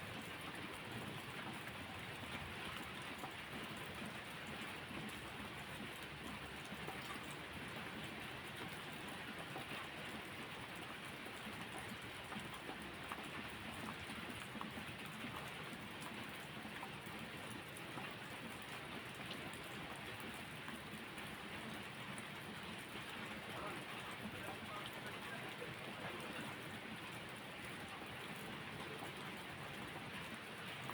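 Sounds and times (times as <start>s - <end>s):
steady rain falling: 0.0s - 30.9s
raindrops ticking: 0.7s - 30.9s.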